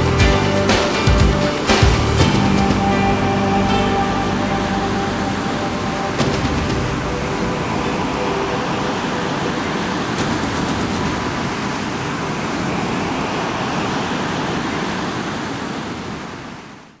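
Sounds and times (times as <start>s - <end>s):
ocean surf breaking on beach: 0.2s - 17.0s.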